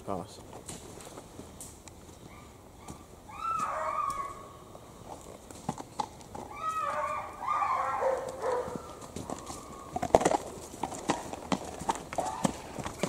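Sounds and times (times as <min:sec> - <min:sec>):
horse hooves clip-clopping: 0:00.4 - 0:13.0.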